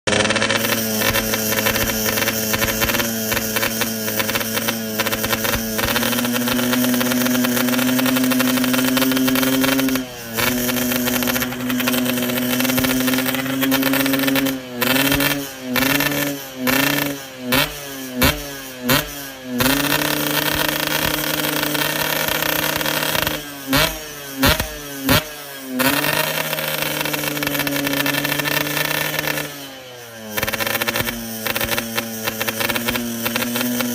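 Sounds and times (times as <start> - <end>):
two-stroke motorcycle engine revving: 0.0 - 33.9.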